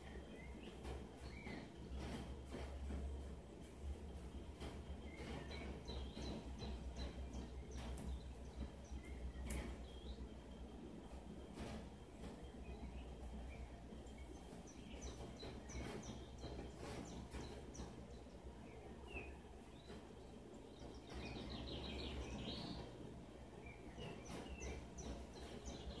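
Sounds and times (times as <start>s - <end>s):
birds chirping: 0.0s - 26.0s
low steady hum: 0.0s - 26.0s.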